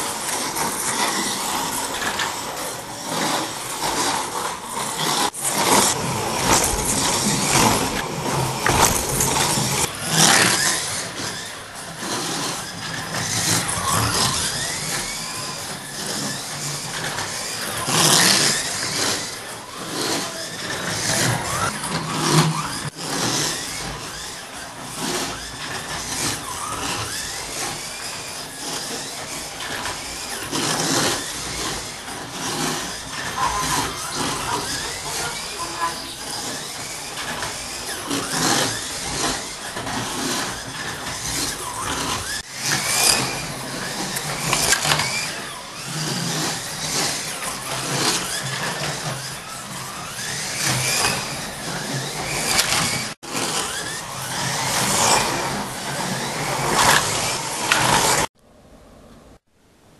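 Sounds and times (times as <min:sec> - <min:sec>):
slot car motor whining: 0:00.0 - 0:58.3
slot car rattling in track: 0:00.0 - 0:58.3.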